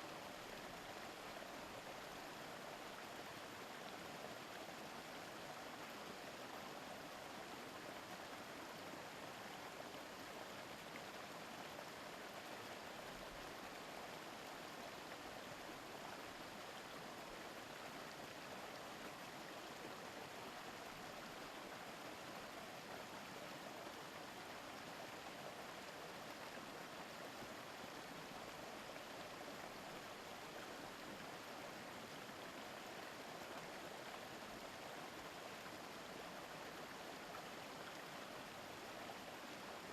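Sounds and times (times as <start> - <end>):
stream murmuring over rocks: 0.0 - 39.9.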